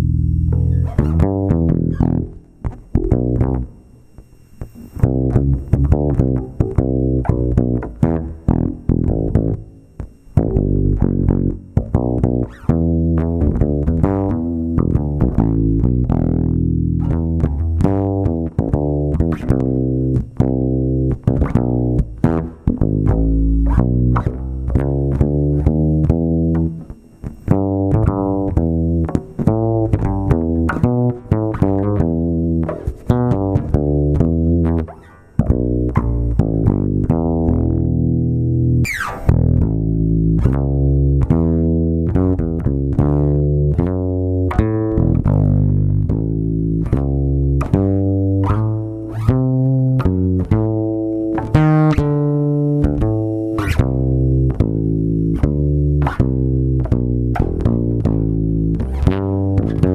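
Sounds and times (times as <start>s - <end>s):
bass guitar plucked notes: 0.0s - 59.9s.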